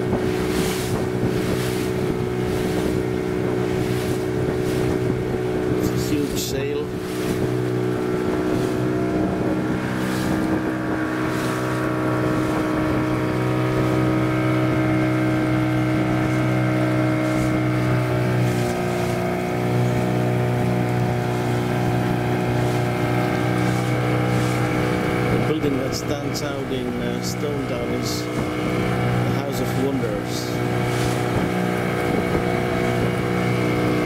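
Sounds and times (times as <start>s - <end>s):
motorboat engine running: 0.0s - 34.0s
water noise: 0.0s - 34.0s
wind noise: 0.0s - 34.0s.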